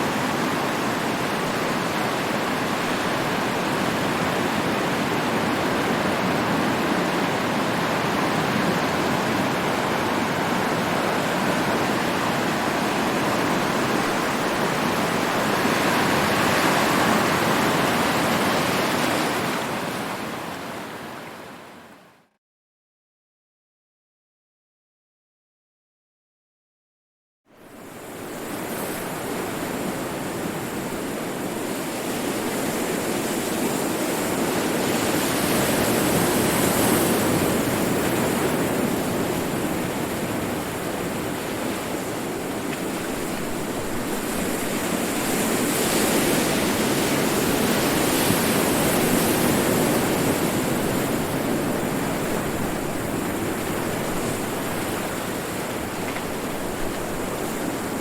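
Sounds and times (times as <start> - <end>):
ocean waves breaking: 0.0 - 22.0, 27.7 - 58.0.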